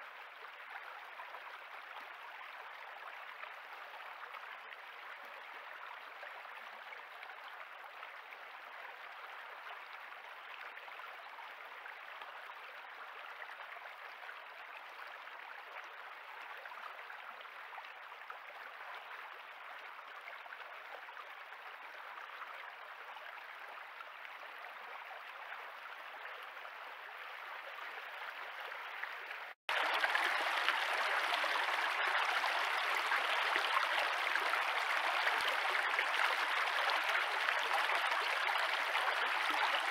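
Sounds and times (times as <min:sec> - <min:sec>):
shallow stream running: 0:00.0 - 0:39.9.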